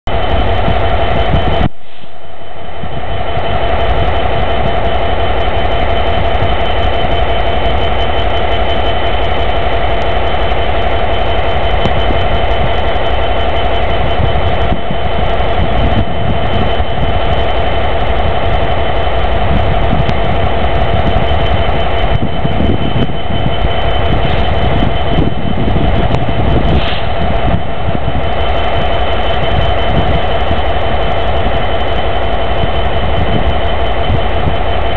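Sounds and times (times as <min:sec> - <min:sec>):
diesel locomotive engine idling: 0:00.0 - 0:34.9
steady whine: 0:00.0 - 0:34.9.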